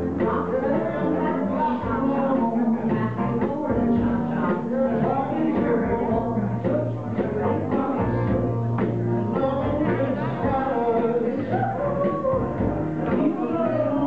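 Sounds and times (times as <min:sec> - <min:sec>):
person singing: 0:00.0 - 0:14.0
sustained bass line: 0:00.0 - 0:14.0.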